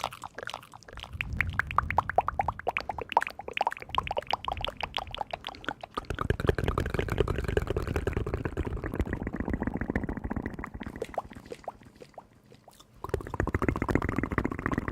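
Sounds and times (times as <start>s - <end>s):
liquid bubbling and gurgling: 0.0s - 14.9s
small pitched plops and drips: 0.0s - 14.9s.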